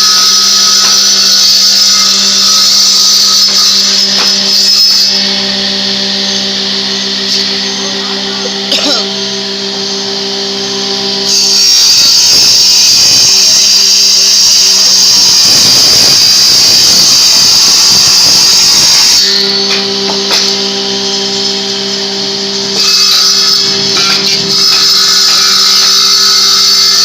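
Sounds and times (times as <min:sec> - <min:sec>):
power tool cutting wood: 0:00.0 - 0:27.0
power tool motor humming: 0:00.0 - 0:27.0.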